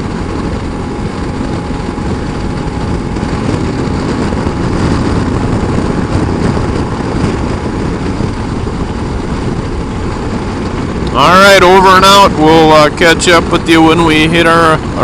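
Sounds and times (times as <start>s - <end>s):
motorcycle engine cruising: 0.0s - 15.0s
wind rushing over microphone: 0.0s - 15.0s.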